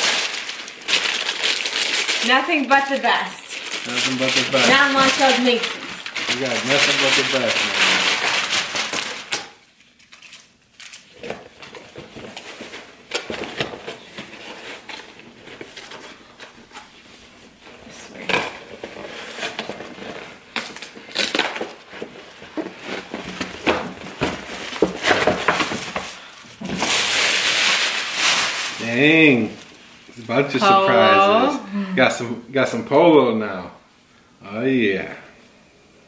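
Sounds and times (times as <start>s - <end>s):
paper rustling and crinkling: 0.0s - 29.8s.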